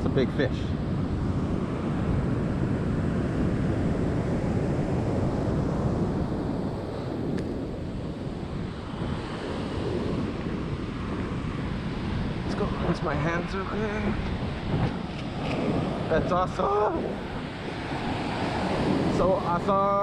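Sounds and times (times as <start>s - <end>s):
ocean surf washing on beach: 0.0s - 20.0s
wind rumbling on microphone: 0.0s - 20.0s.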